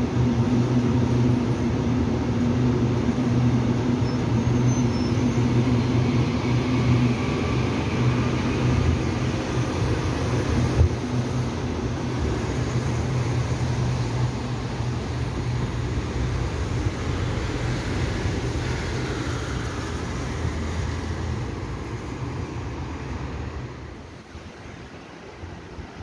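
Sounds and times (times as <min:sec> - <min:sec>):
electric train moving away: 0:00.0 - 0:26.0.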